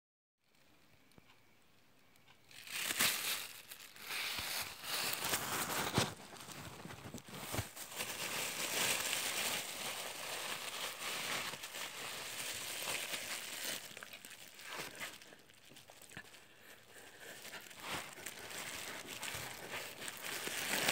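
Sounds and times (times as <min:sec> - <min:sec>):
plastic bag crinkling: 0:02.5 - 0:20.9.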